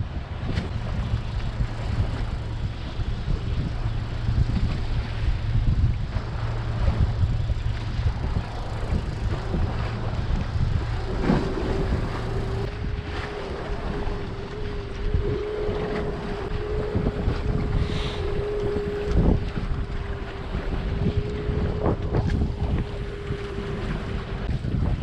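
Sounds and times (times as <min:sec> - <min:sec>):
steady hum: 0:00.0 - 0:25.0
wind buffeting microphone: 0:00.0 - 0:25.0.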